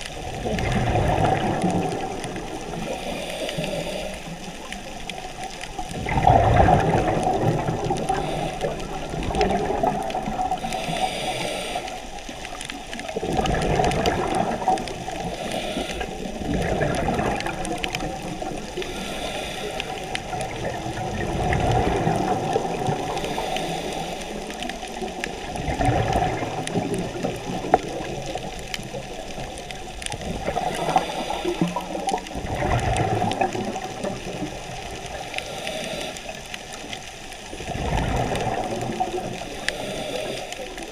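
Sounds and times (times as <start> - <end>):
exhaled bubbles gurgling underwater: 0.0 - 40.9.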